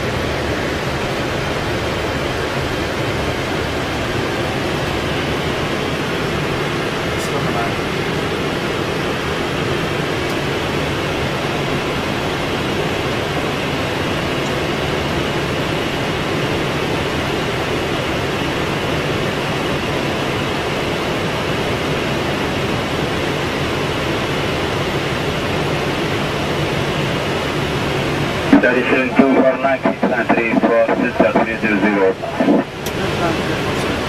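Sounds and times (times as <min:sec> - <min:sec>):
airflow and air conditioning roar: 0:00.0 - 0:34.0.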